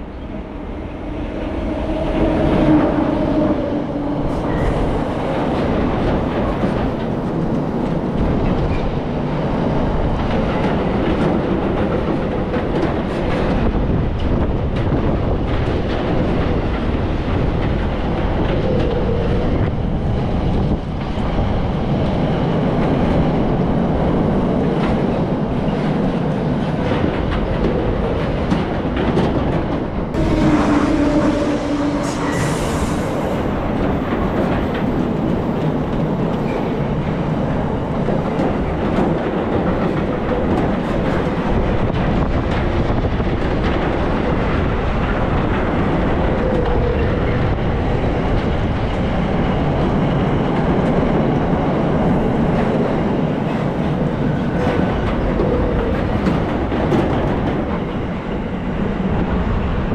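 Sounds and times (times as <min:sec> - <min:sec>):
freight train rumbling past: 0:00.0 - 0:59.9
wheels clickety-clack on rails: 0:01.1 - 0:59.9.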